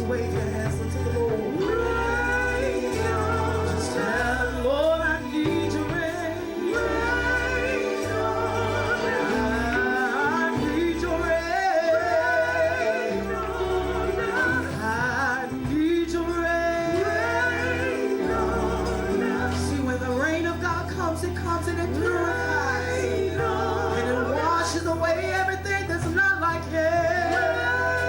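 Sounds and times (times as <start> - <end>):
gospel group singing: 0.0 - 28.0
instrumental backing with bass line: 0.0 - 28.0.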